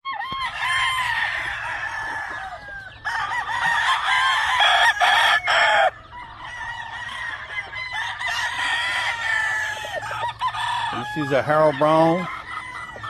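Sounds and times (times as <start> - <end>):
roosters crowing: 0.0 - 13.0
chickens clucking: 0.1 - 13.0.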